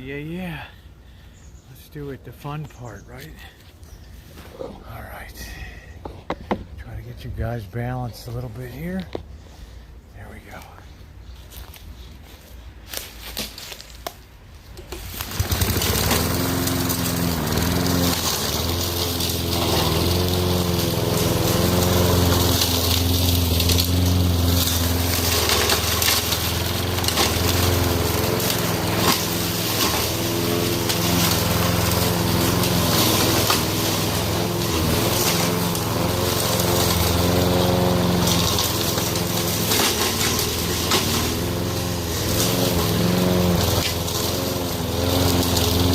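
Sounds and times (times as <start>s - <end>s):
lawn mower engine mulching branches: 0.0s - 45.9s.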